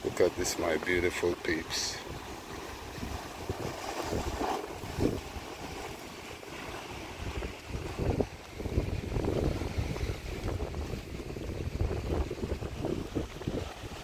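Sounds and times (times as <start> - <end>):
sea surf on rocks: 0.0 - 14.0
wind buffeting microphone: 1.7 - 14.0.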